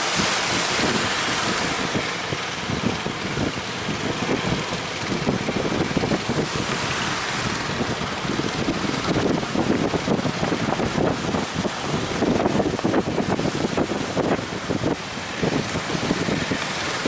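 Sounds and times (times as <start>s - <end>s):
sea and surf: 0.0s - 17.0s
wind buffeting microphone: 0.0s - 17.0s.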